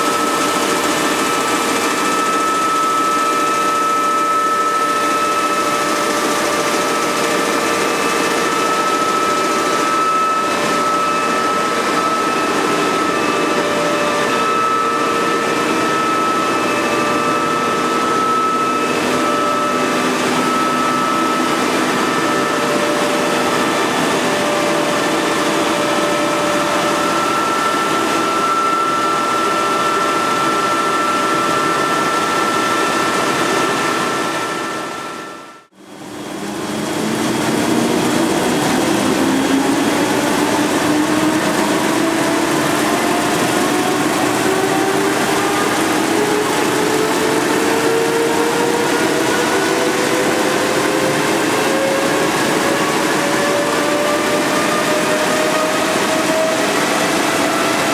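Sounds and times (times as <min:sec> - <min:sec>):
high machine whine: 0:00.0 - 0:57.9
printing press drone: 0:00.0 - 0:57.9.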